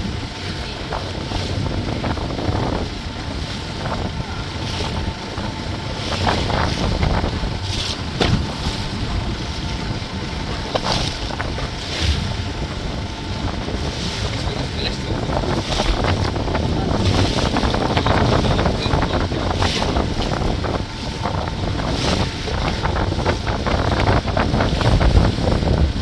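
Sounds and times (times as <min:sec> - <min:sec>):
boat engine running: 0:00.0 - 0:26.0
rushing water: 0:00.0 - 0:26.0
wind buffeting microphone: 0:00.0 - 0:26.0.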